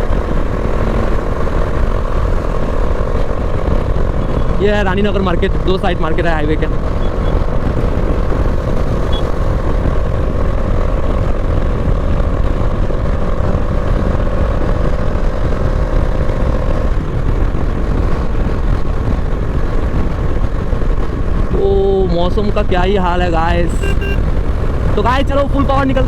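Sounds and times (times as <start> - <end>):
motorcycle engine running: 0.0 - 26.0
wind rumble: 0.0 - 26.0.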